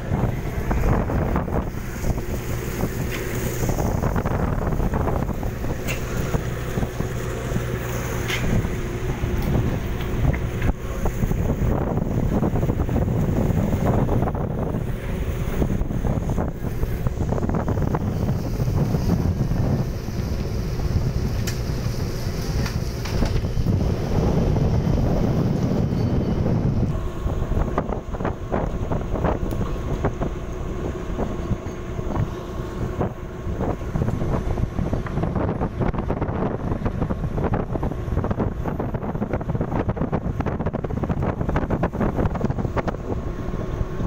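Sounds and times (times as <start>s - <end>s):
low hum of boat: 0.0s - 44.0s
sea water rushing along hull: 0.0s - 44.0s
wind buffeting microphone: 0.0s - 44.0s.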